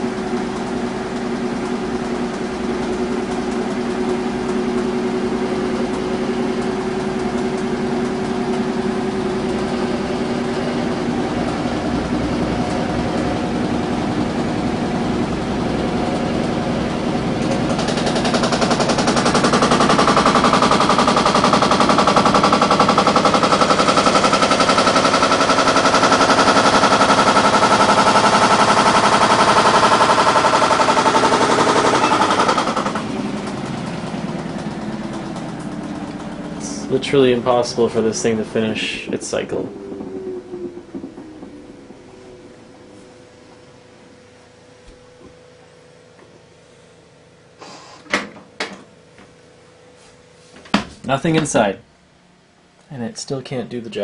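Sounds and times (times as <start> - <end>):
washing machine rattling and knocking: 0.0 - 44.1
washing machine motor hum: 0.0 - 54.0.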